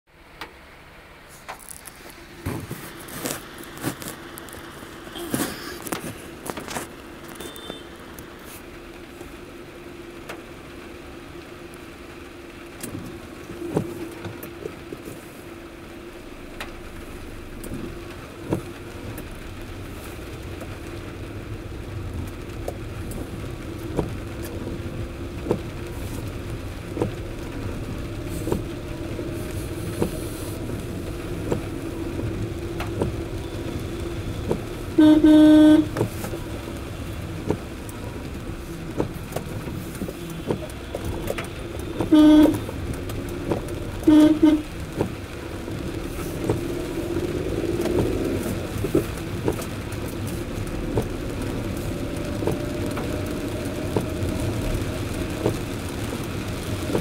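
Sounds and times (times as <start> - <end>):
car engine and road hum: 0.1 - 57.0
raindrops tapping on car: 0.1 - 57.0.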